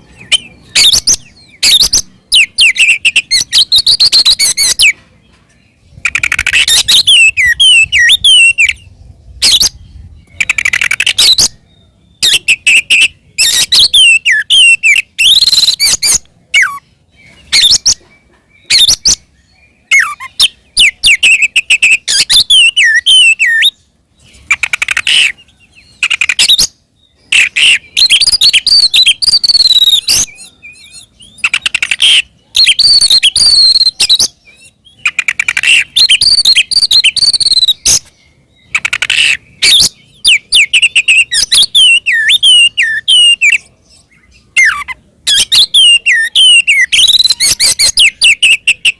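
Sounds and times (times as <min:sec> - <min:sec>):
bird singing whistles and chatter: 0:00.0 - 0:05.0, 0:05.7 - 0:48.9.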